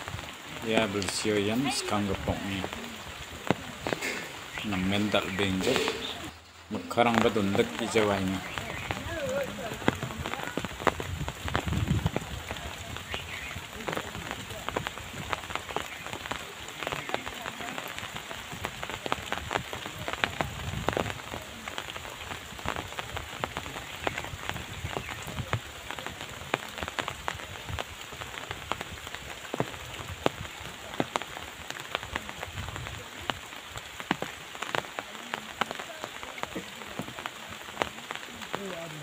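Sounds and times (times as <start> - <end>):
raindrops ticking nearby: 0.0 - 39.0
steady rain: 0.0 - 39.0.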